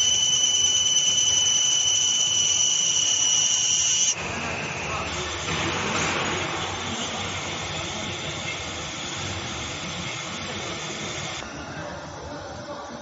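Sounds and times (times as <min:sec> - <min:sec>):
high machine hiss: 0:00.0 - 0:13.0
laser machine hum: 0:00.0 - 0:13.0.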